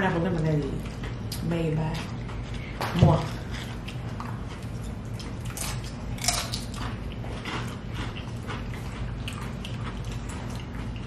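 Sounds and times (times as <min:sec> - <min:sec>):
chewing and crunching: 0:00.0 - 0:11.0.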